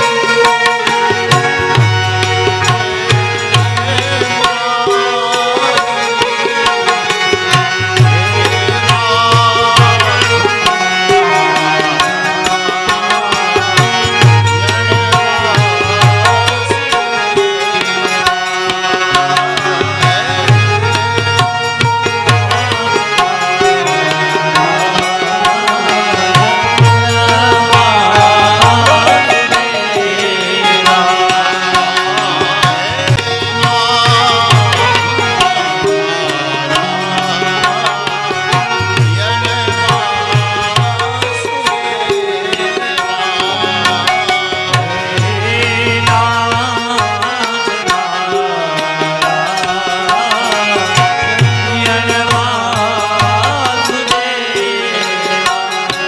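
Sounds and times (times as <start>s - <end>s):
tabla drumming: 0.0s - 56.0s.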